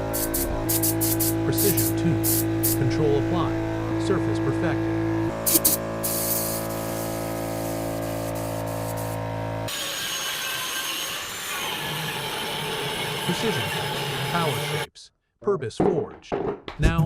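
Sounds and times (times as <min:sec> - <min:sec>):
power tool motor humming: 0:00.0 - 0:04.2, 0:04.8 - 0:14.9.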